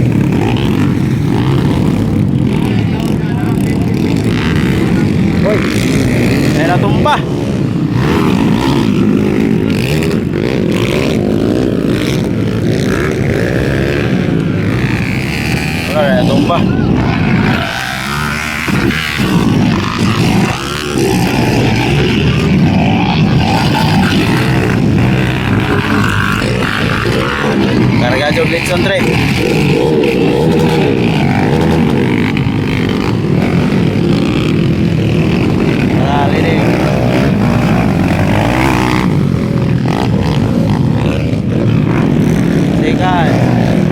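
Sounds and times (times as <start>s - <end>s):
motorcycle engines revving: 0.0s - 43.9s.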